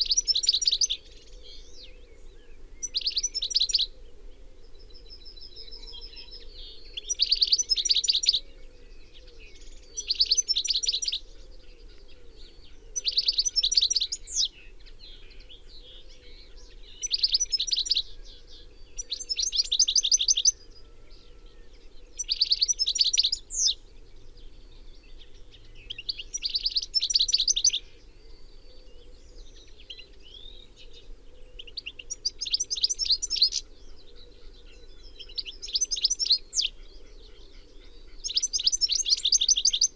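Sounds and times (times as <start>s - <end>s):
goldfinch singing trilled notes: 0.0s - 2.0s, 2.8s - 3.9s, 5.2s - 8.5s, 9.1s - 11.4s, 12.5s - 28.7s, 29.4s - 34.2s, 34.9s - 36.8s, 38.1s - 39.9s.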